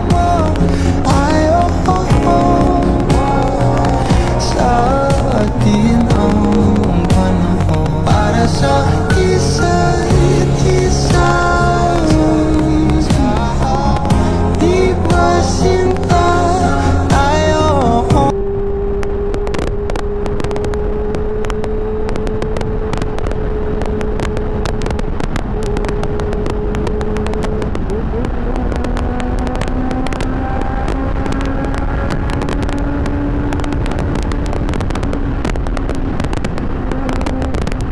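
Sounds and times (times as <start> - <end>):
motorcycle engine cruising: 0.0 - 37.9
wind buffeting microphone: 0.0 - 37.9.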